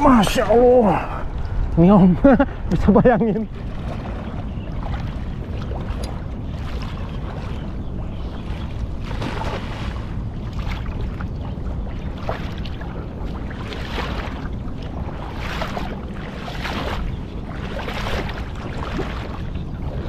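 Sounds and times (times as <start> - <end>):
water splashing and sloshing: 0.0 - 20.0
wind rumble on microphone: 0.0 - 20.0.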